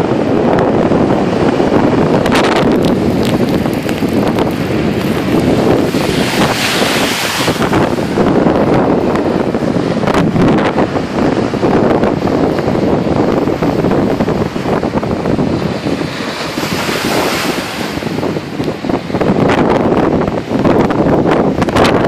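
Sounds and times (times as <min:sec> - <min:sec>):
ocean surf breaking: 0:00.0 - 0:21.9
wind buffeting microphone: 0:00.0 - 0:22.0.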